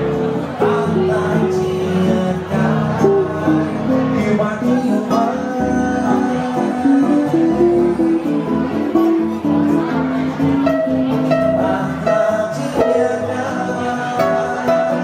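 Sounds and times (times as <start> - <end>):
acoustic guitars playing bossa nova: 0.0 - 15.0
man singing: 0.0 - 15.0.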